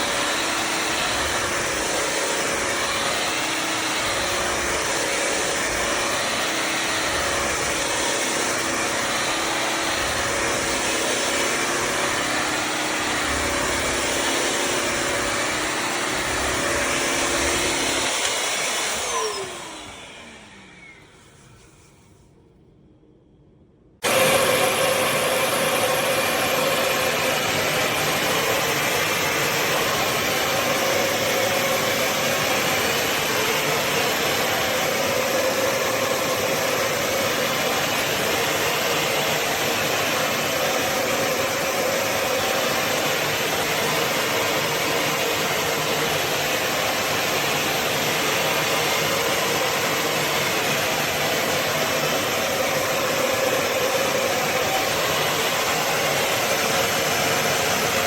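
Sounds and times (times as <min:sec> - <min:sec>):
floor cleaner motor whir: 0:00.0 - 0:22.3, 0:24.0 - 0:58.0.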